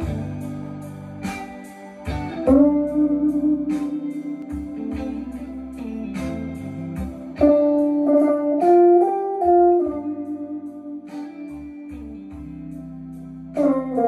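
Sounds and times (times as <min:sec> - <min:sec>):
blues backing track with drums: 0:00.0 - 0:14.0
electric guitar blues lead: 0:00.0 - 0:14.0.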